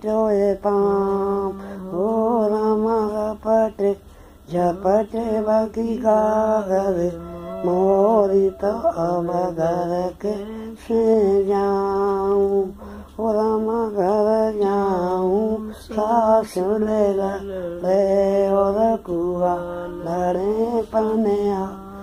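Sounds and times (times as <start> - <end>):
woman singing a chant-like song: 1.0 - 22.0.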